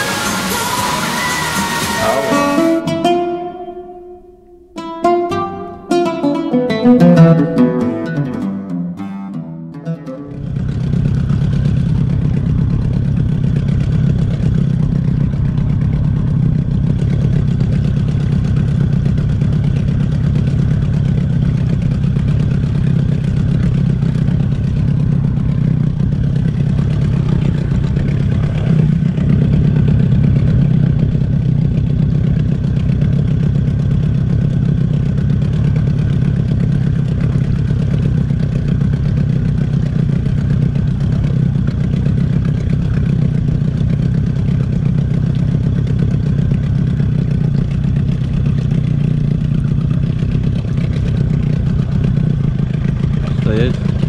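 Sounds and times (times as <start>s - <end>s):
outboard motor droning: 0.0s - 2.7s, 10.3s - 54.0s.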